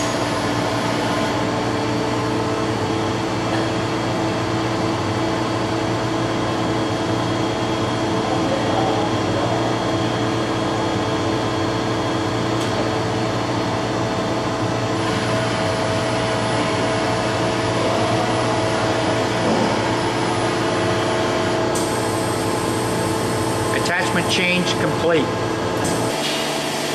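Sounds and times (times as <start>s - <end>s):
machine hum with steady tones: 0.0s - 26.9s.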